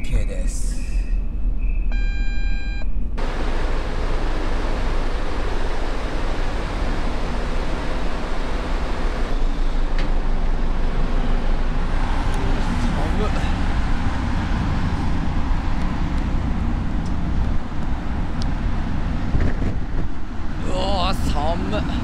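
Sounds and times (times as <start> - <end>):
deep rumble of ferry deck: 0.0 - 22.0
loud rushing noise: 3.2 - 22.0.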